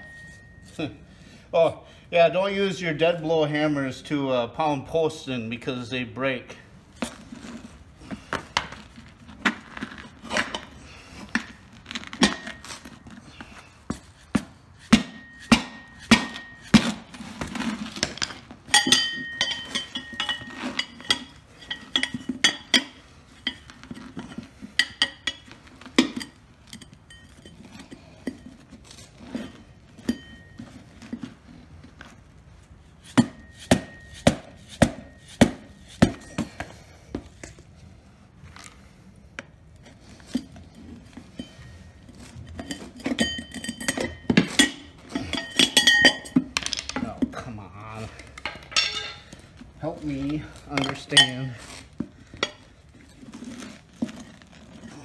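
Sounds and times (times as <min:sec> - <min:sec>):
tire iron clinking on steel rim: 0:00.0 - 0:01.3, 0:06.9 - 0:37.8, 0:39.8 - 0:55.0.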